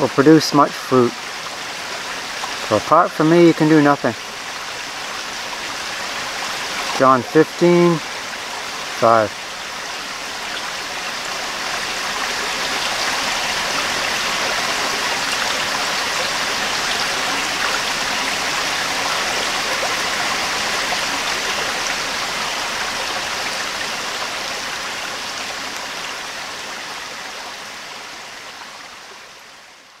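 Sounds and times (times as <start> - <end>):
creek water rushing over stones: 0.0 - 30.0.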